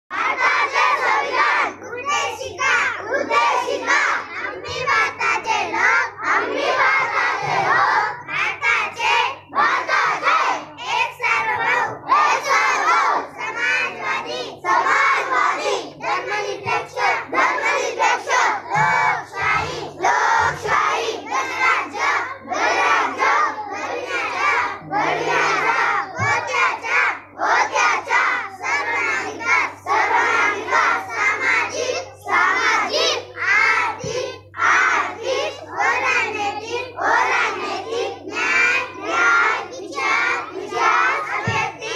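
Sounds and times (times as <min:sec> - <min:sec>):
children chanting in unison: 0:00.1 - 0:41.9.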